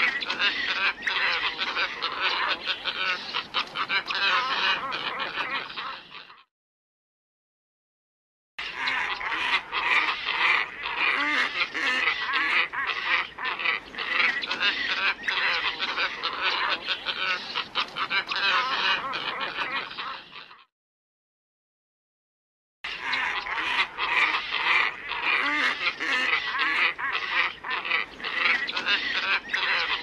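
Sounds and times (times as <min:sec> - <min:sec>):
flock of ibises calling: 0:00.0 - 0:06.4, 0:08.6 - 0:20.7, 0:22.9 - 0:30.0.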